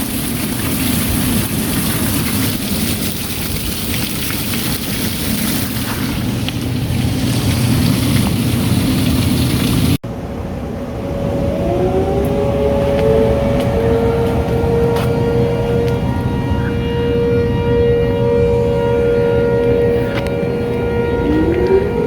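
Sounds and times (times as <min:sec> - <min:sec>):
storm wind and rain: 0:00.0 - 0:22.0
tornado warning sirens wailing: 0:00.0 - 0:22.0.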